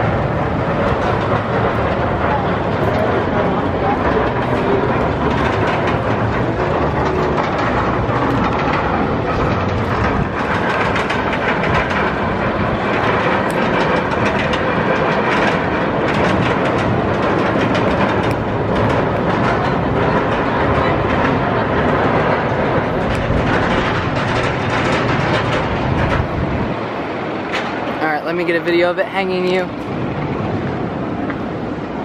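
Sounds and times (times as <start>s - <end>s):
roller coaster chain lift clatter: 0.0s - 32.0s.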